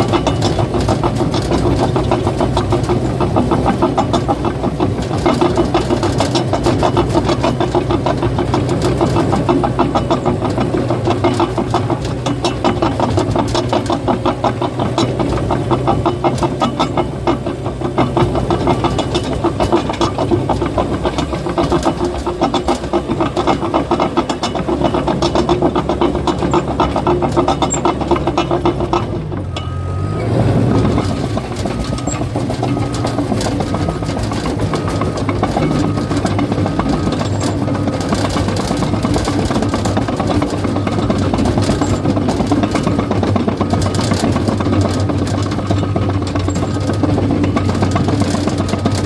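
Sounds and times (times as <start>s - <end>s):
bulldozer diesel engine running: 0.0s - 49.0s
steel tracks clattering: 0.0s - 49.0s.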